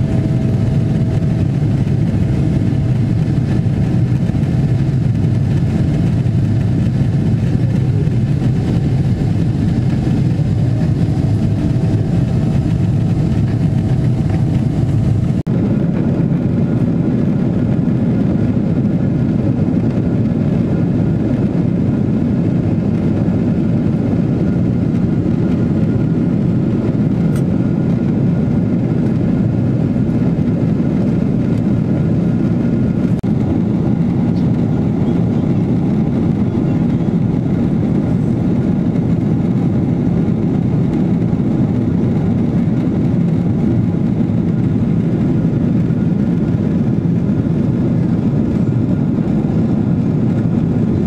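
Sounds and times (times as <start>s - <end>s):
jet airliner cabin roar: 0.0s - 51.0s.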